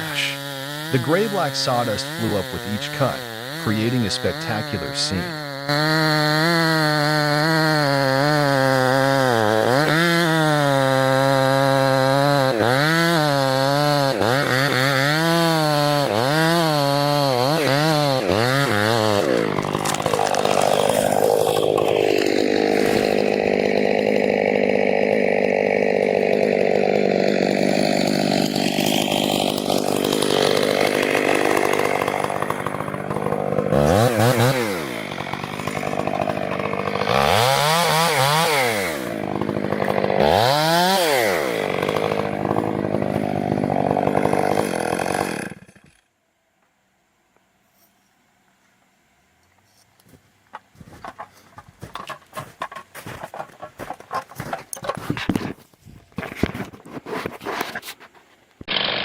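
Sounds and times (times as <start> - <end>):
chainsaw cutting wood: 0.0 - 46.1, 50.5 - 59.0.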